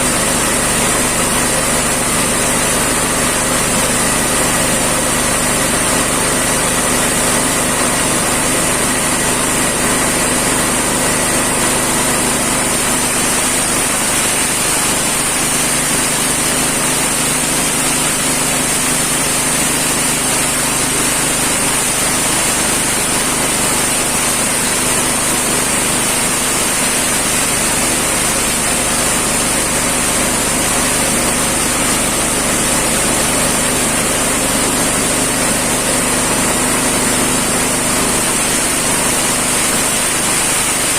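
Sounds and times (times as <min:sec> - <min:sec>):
forage chopper running with whine: 0:00.0 - 0:40.9.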